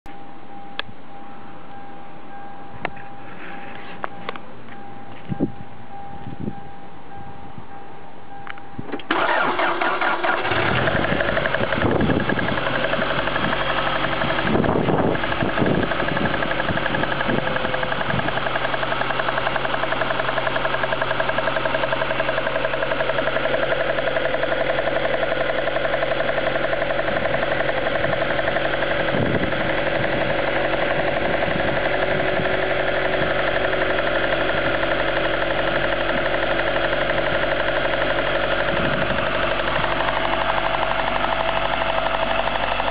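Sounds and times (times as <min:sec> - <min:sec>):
car engine starting and idling: 0:08.2 - 0:42.9.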